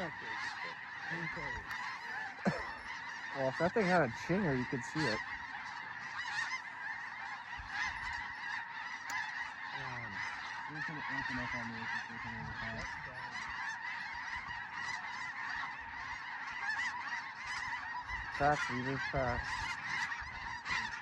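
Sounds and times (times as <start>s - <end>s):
flock of geese honking: 0.0s - 21.0s.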